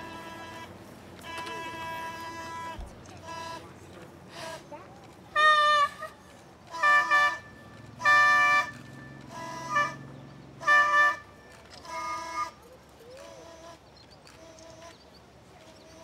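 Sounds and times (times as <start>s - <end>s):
small horn toots: 0.0s - 3.7s, 5.3s - 15.0s.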